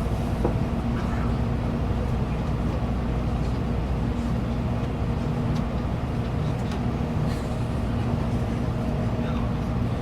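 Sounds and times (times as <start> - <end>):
train interior rumble and hum: 0.0 - 10.0.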